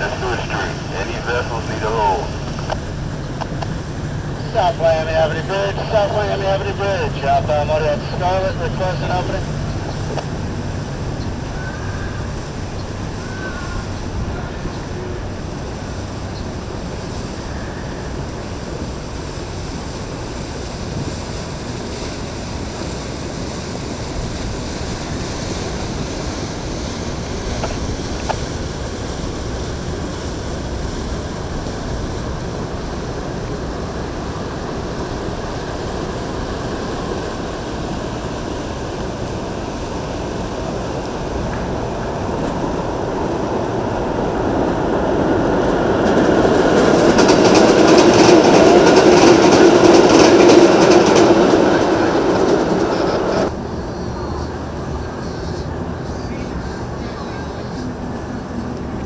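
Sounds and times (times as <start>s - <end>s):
wind and water rushing: 0.0s - 59.0s
wind buffeting microphone: 0.0s - 59.0s.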